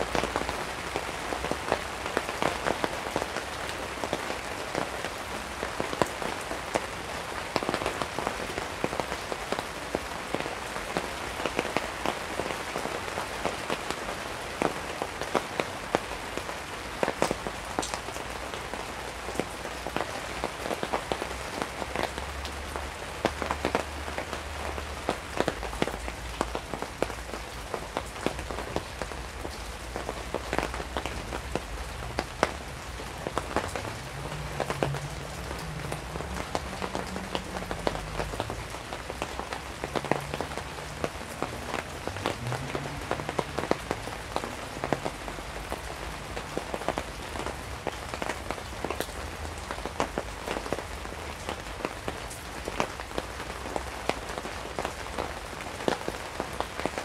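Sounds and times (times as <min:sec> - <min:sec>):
rain drumming on a tarp: 0:00.0 - 0:57.0.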